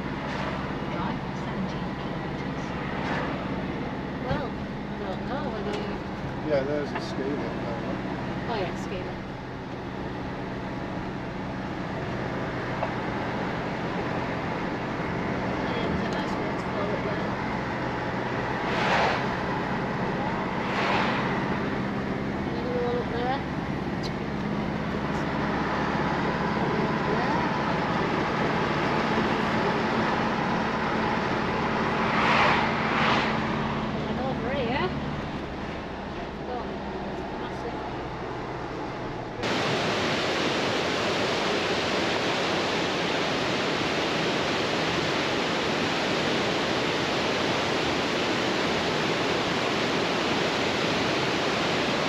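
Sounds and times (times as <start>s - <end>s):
engine and road noise drone: 0.0s - 52.0s
low hum: 0.0s - 52.0s.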